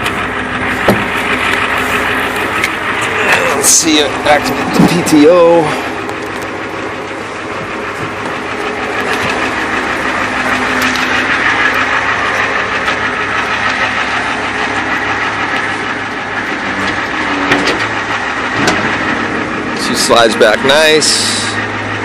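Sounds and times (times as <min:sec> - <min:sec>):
hydraulic pump whine: 0:00.0 - 0:22.0
truck engine idling: 0:00.0 - 0:22.0.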